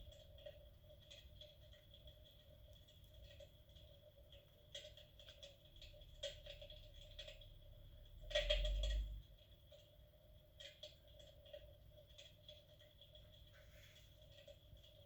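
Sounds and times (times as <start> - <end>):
soft crackling clicks: 0.0 - 7.5, 8.1 - 15.0
faint steady hum: 0.0 - 15.0.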